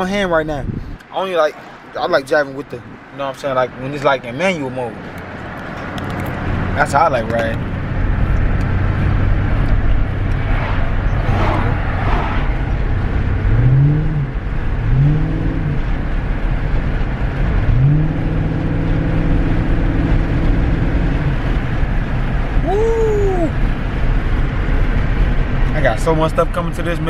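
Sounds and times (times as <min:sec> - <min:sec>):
car engine revving while driving: 0:02.9 - 0:22.7, 0:23.6 - 0:27.0.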